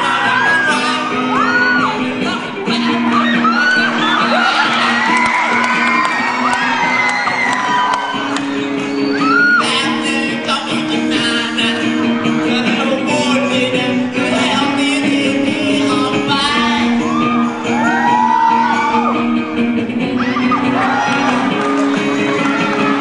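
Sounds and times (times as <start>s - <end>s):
crowd shouting and whooping: 0.0s - 23.0s
live band music: 0.0s - 23.0s.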